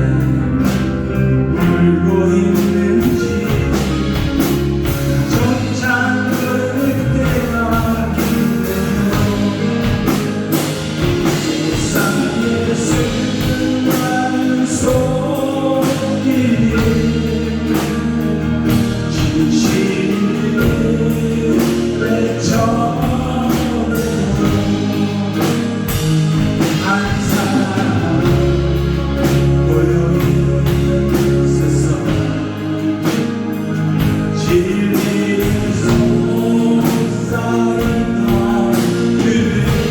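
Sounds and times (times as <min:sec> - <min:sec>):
drums keeping steady beat: 0:00.0 - 0:39.9
praise team singing with band: 0:00.0 - 0:39.9.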